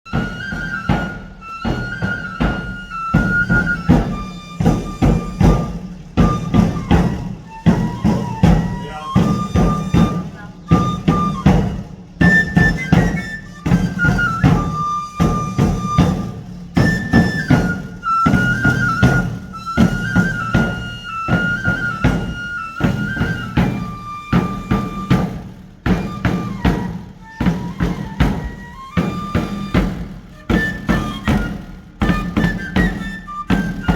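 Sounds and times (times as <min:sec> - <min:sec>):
fast drum strokes: 0:00.1 - 0:33.9
high flute melody: 0:00.1 - 0:33.9.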